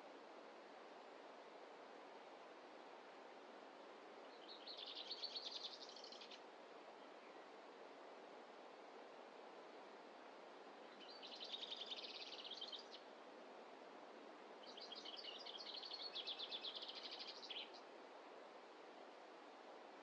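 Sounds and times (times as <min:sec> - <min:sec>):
faint forest hiss: 0:00.0 - 0:20.0.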